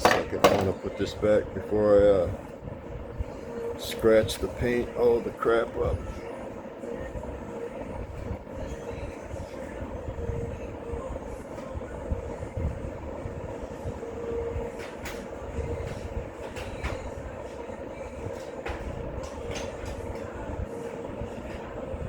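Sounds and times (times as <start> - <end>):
low rumble with hum: 0.0 - 22.0.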